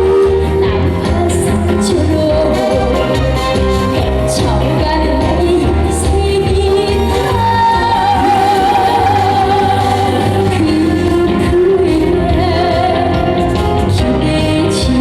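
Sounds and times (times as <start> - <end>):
amplified instrumental backing: 0.0 - 15.0.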